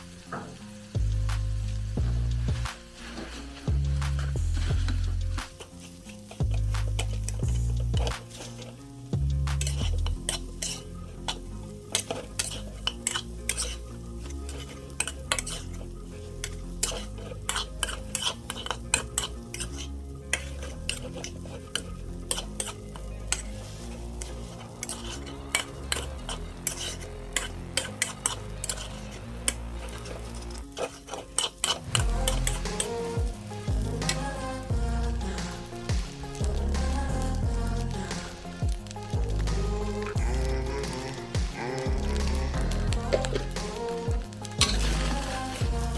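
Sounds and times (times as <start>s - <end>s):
food sizzling: 0.0s - 45.9s
metal spatula scraping a pan: 1.6s - 37.2s, 37.8s - 45.9s.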